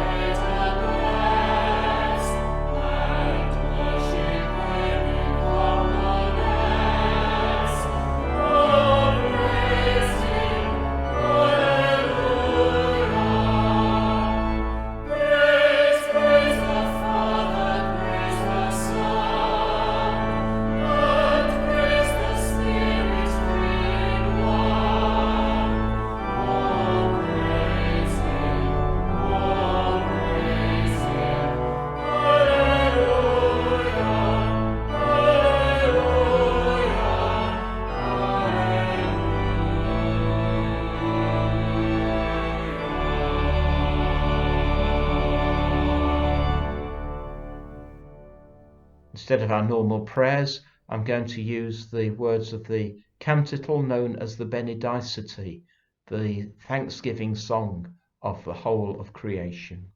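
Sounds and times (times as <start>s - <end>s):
choir singing with vibrato: 0.0s - 48.8s
sustained low instrumental notes: 0.0s - 49.1s.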